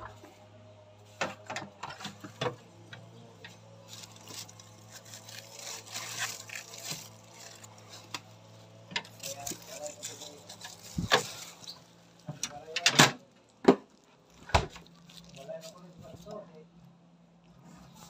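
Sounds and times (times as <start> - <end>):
rustling and scraping: 0.0 - 12.9, 13.7 - 16.7, 17.4 - 18.0.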